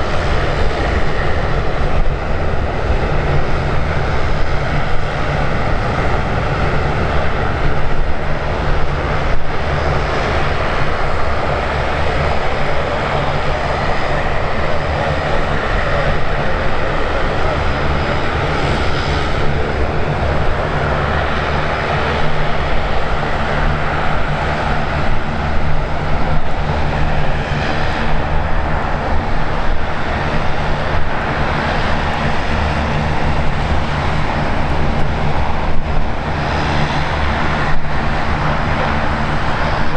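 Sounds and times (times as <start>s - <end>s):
aircraft engines running: 0.0s - 39.9s.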